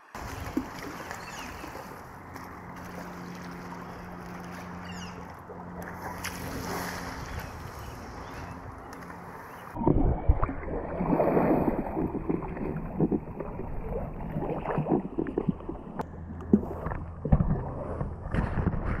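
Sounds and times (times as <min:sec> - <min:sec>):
muffled water sloshing and splashing: 0:00.0 - 0:19.0.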